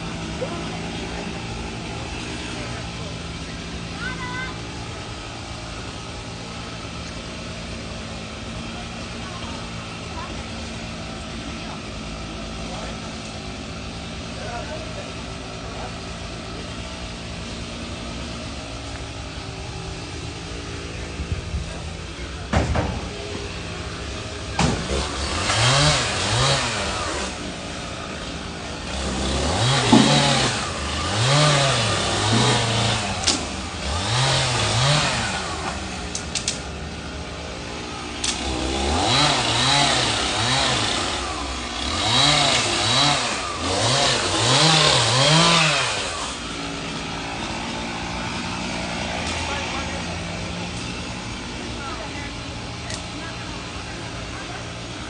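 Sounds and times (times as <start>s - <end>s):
chainsaw revving and cutting wood: 0.0s - 55.0s.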